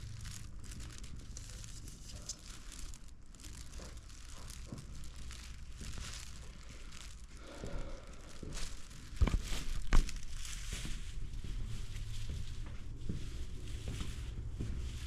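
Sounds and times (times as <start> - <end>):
rustling handling noise: 0.0 - 15.0.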